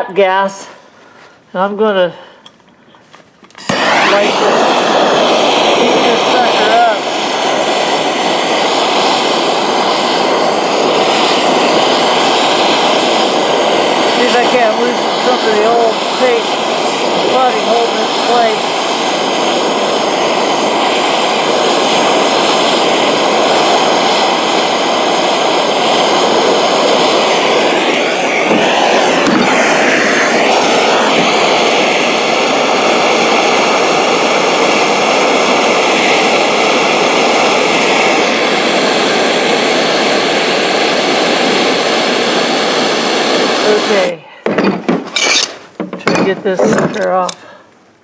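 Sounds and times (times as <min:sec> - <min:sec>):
gas torch hissing: 0:03.4 - 0:47.7.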